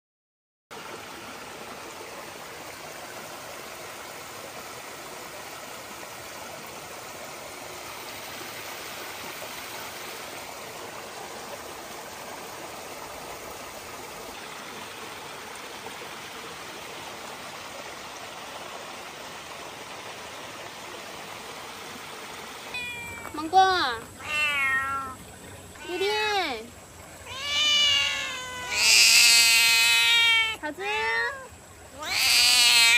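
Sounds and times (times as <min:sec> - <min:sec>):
stream running over rocks: 0:00.7 - 0:32.9.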